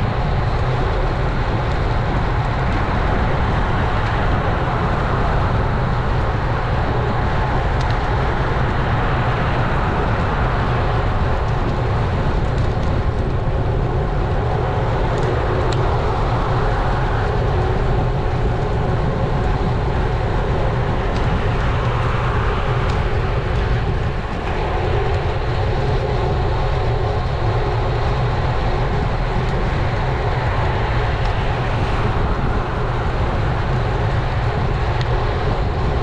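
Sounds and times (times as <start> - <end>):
low road rumble: 0.0 - 36.0
wind rush on microphone: 0.0 - 36.0.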